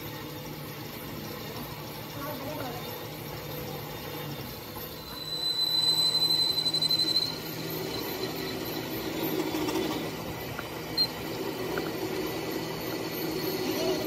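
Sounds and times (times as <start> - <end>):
high whine: 0.0 - 14.0
metalworking machinery running: 0.0 - 14.0.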